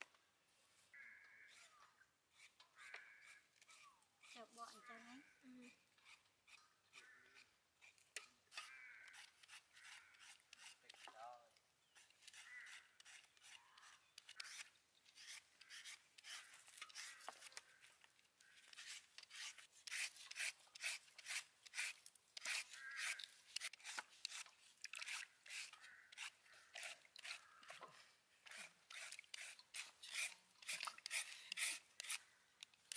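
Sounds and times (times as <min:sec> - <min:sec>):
peeler rasping strokes: 0:03.6 - 0:04.8, 0:05.7 - 0:11.2, 0:12.0 - 0:32.9.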